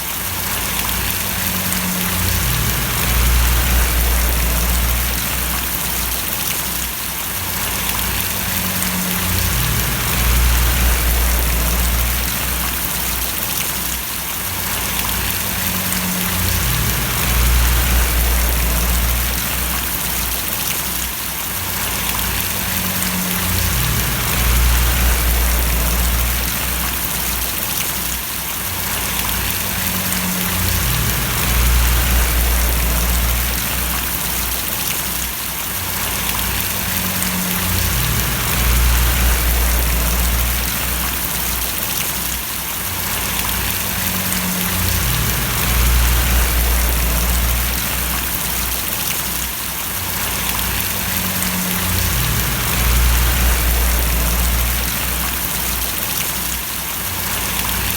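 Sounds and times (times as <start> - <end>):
rain splashing: 0.0 - 57.9
low hum: 0.8 - 6.6, 7.6 - 13.6, 14.7 - 20.8, 21.8 - 27.8, 28.9 - 35.0, 36.0 - 42.1, 43.2 - 49.4, 50.2 - 56.3.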